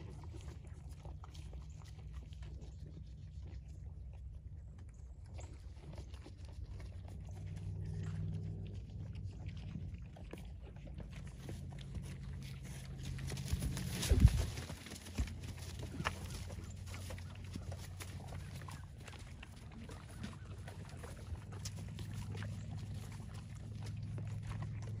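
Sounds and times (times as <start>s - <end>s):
horses munching feed: 0.0s - 25.0s
low steady hum: 0.0s - 25.0s.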